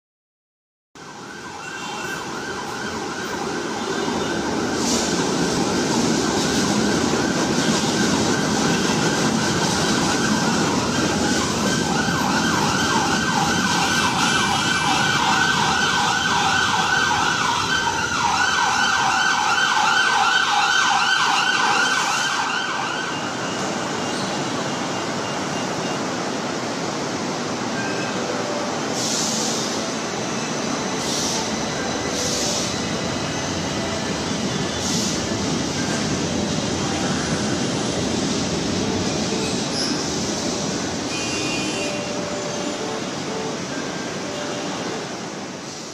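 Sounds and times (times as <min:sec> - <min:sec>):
light rail train rumble: 0:01.0 - 0:45.9.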